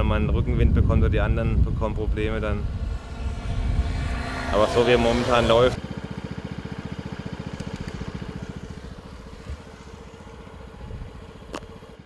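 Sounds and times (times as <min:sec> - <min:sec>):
vehicle engine idling: 0:01.6 - 0:12.0.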